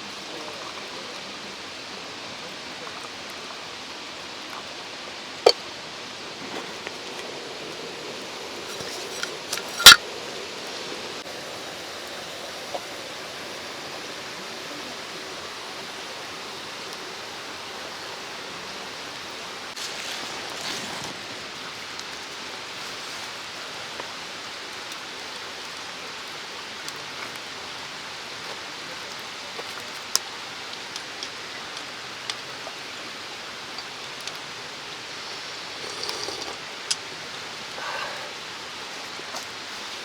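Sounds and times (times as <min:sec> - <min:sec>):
mountain stream rushing: 0:00.0 - 0:40.0.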